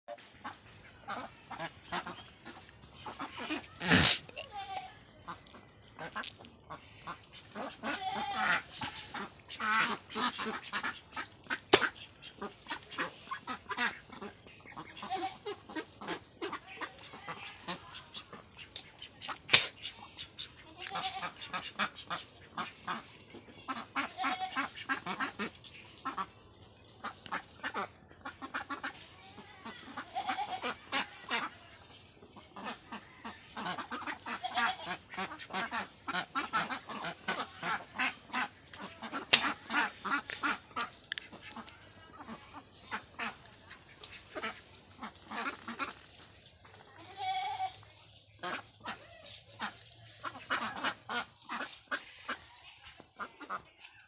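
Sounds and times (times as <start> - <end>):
ducks quacking: 0.2 - 4.4, 5.2 - 54.0.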